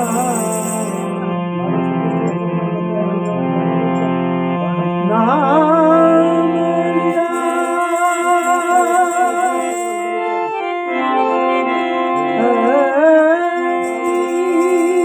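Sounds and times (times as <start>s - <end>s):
harmonium chords: 0.0s - 15.0s
person singing devotional song: 0.0s - 15.0s.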